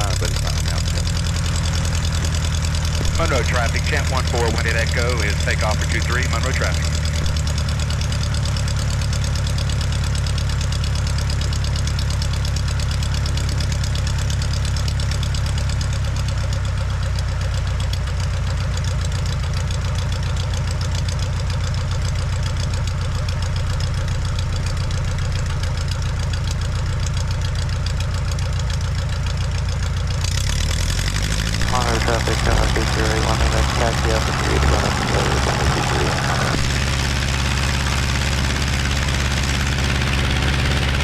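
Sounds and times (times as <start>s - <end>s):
aircraft engine and propeller: 0.0s - 41.0s.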